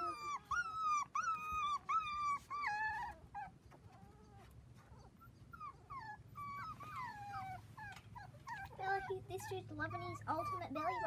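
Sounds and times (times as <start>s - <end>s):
puppy whining: 0.0s - 11.0s.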